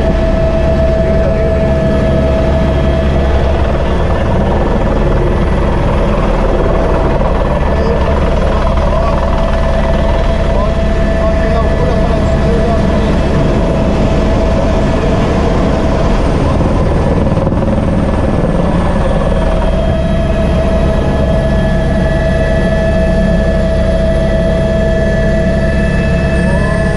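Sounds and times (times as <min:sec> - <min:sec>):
helicopter cabin drone: 0:00.0 - 0:26.9
helicopter turbine whine: 0:00.0 - 0:26.9.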